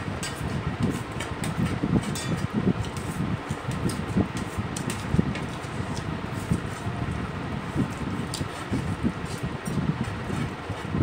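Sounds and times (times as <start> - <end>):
fan-like air noise: 0.0 - 11.0
wind buffeting microphone: 0.0 - 11.0.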